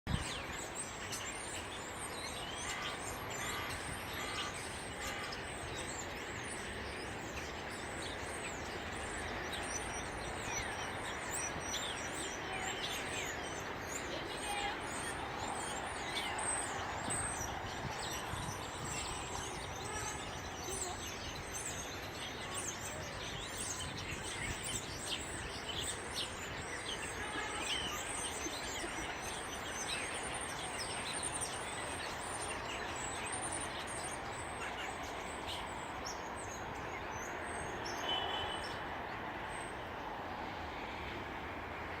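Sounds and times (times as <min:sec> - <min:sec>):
songbirds chirping: 0:00.0 - 0:42.0
steady background noise: 0:00.1 - 0:42.0.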